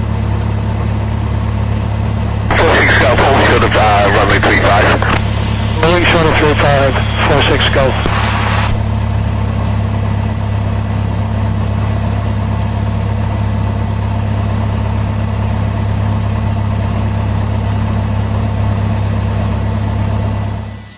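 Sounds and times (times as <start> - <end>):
small plane engine droning: 0.0 - 20.9.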